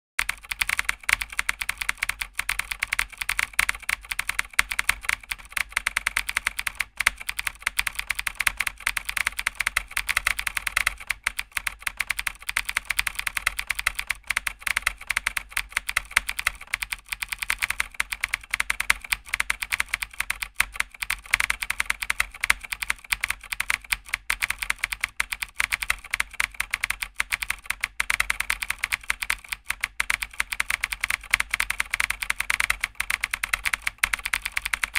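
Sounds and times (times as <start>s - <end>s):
keyboard typing clicks: 0.2s - 34.9s.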